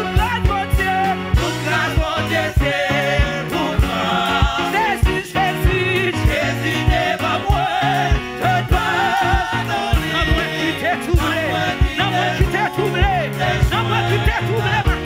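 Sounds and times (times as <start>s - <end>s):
bass: 0.0s - 15.0s
steady drum beat: 0.0s - 15.0s
backing singers: 1.4s - 15.0s.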